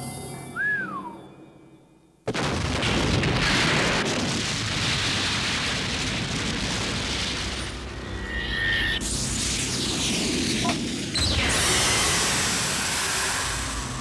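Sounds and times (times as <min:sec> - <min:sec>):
explosion blast and rumble: 0:02.3 - 0:14.0.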